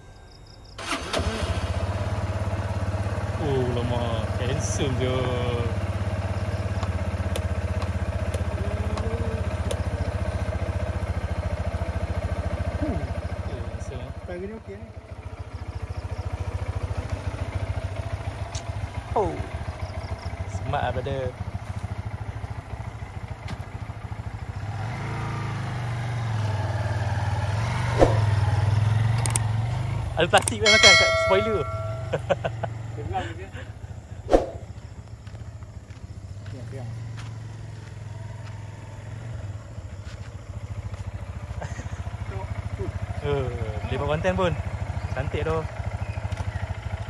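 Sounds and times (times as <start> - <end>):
scooter engine idling: 0.8 - 47.0.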